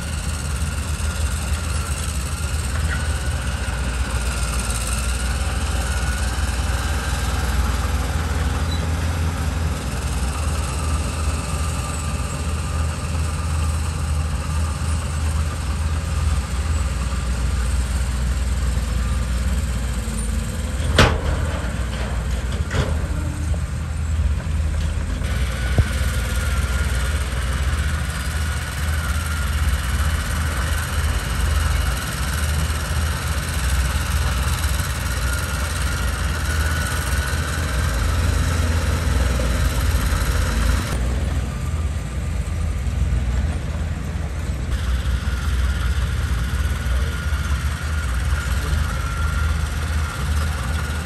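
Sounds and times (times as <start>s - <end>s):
bulldozer diesel engine rumbling: 0.0s - 51.0s.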